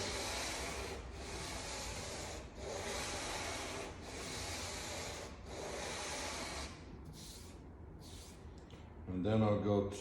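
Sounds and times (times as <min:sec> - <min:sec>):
sandpaper rubbing on wood: 0:00.0 - 0:08.4.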